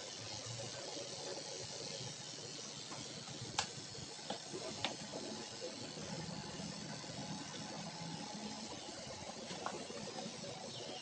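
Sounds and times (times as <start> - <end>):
electric clippers running: 0.0 - 11.0.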